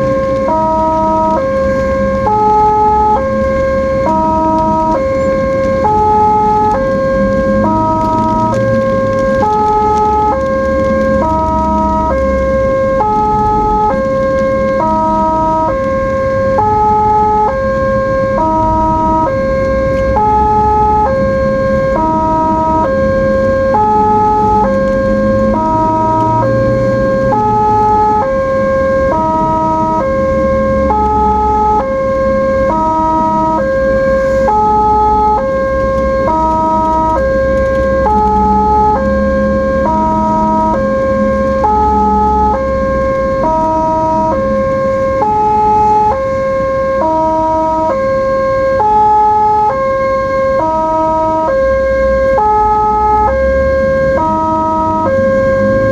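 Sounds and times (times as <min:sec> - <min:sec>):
ambulance siren two-tone: 0:00.0 - 0:55.9
low vehicle rumble: 0:00.0 - 0:55.9.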